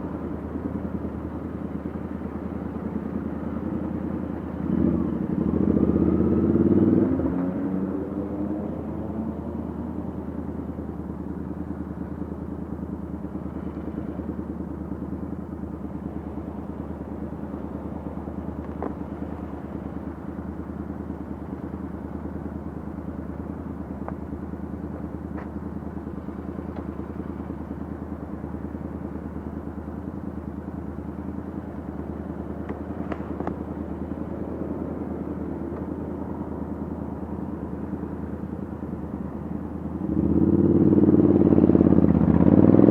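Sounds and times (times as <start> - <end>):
motorcycle engine idling: 0.0 - 7.0, 8.6 - 42.9.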